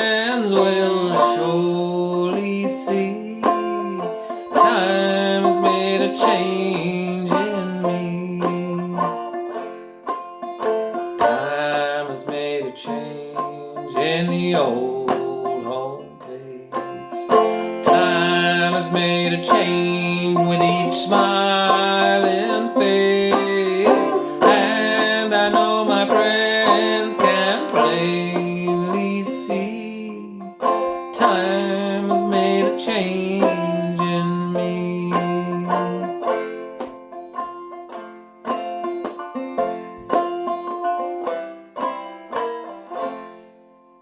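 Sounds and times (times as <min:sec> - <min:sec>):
clawhammer banjo playing: 0:00.0 - 0:44.0.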